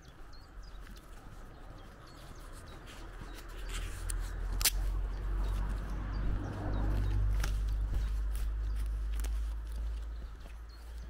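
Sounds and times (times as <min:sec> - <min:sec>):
footsteps on dirt track: 0:00.0 - 0:11.0
small birds chirping: 0:00.0 - 0:11.0
wind rumble on microphone: 0:00.0 - 0:11.0.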